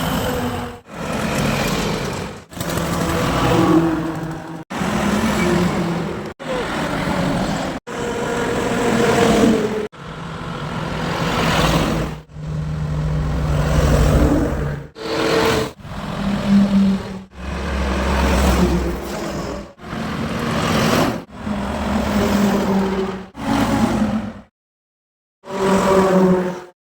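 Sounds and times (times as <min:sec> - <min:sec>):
highway traffic passing: 0:00.0 - 0:22.0.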